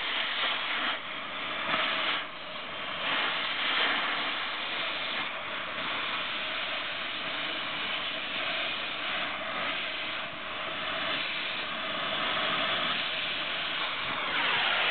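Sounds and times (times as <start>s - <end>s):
cutting torch hissing: 0.0s - 14.9s.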